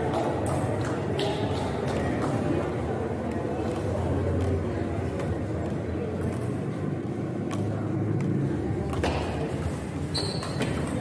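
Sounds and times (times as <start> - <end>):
low hum of hall: 0.0 - 11.0.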